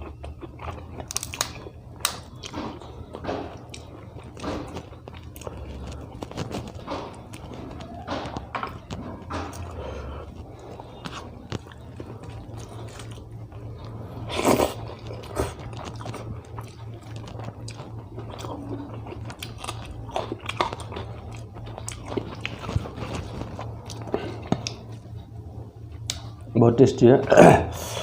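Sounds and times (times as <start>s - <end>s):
crunchy bites: 0.0s - 25.0s
person chewing food: 0.0s - 26.5s
steady low hum: 0.0s - 28.0s.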